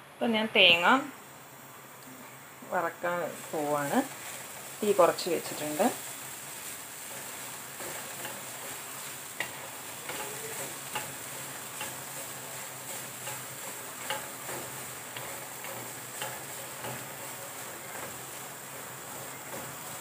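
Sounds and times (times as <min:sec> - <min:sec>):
faint steady sizzle: 0:00.0 - 0:20.0
utensil scraping a pan: 0:03.3 - 0:20.0.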